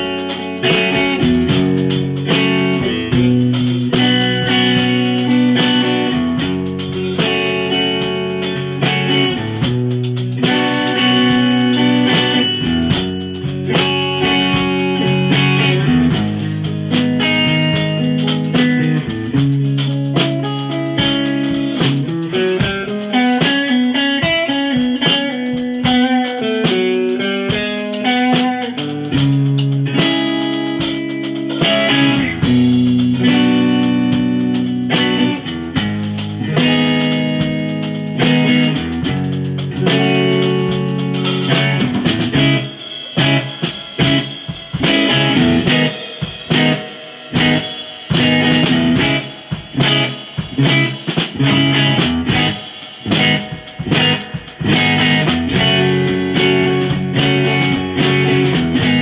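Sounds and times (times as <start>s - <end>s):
drum kit: 0.0s - 59.0s
electric blues guitar: 0.0s - 59.0s.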